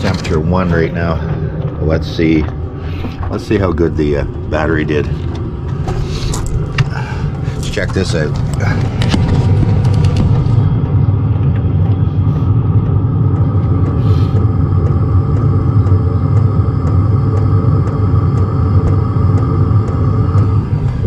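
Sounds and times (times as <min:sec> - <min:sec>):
air heater burner and fan rumble: 0:00.0 - 0:21.0.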